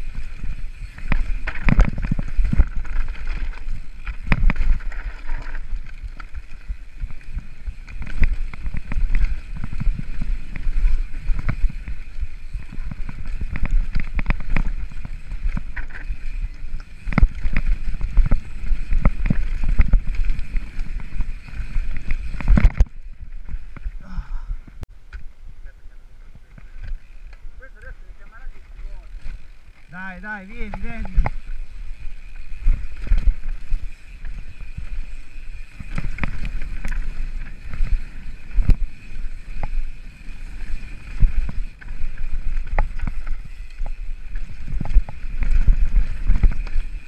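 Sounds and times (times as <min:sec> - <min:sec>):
bike rattling over stones: 0:00.0 - 0:24.5, 0:26.3 - 0:47.0.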